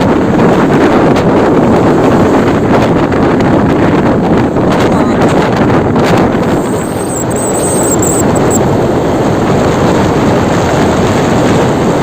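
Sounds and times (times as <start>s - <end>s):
heavy truck engine and road noise: 0.0s - 12.0s.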